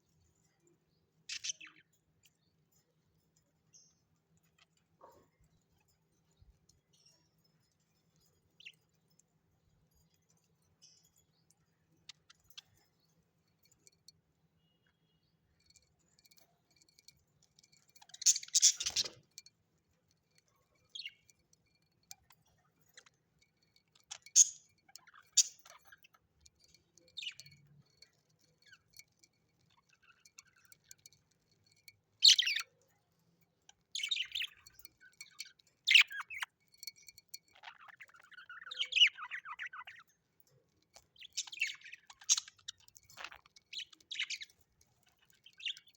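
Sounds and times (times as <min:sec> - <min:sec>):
birds chirping: 0:00.0 - 0:02.9, 0:03.6 - 0:45.9.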